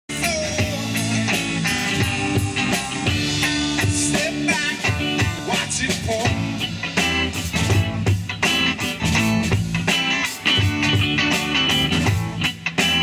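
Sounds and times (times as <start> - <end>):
live rock band playing: 0.1 - 13.0.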